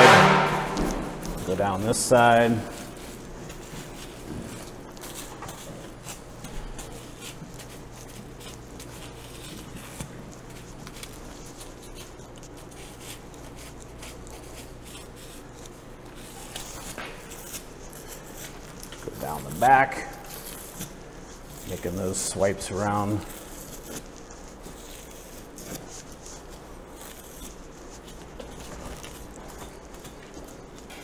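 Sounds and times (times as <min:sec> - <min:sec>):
knife slicing and tearing hide: 0:00.0 - 0:22.1, 0:22.7 - 0:31.0
steady low hum: 0:00.0 - 0:31.0.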